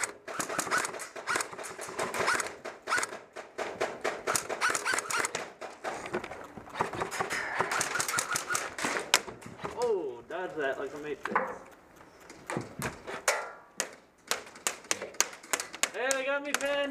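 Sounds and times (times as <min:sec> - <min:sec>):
airsoft guns firing: 0:00.0 - 0:09.9, 0:12.5 - 0:16.9.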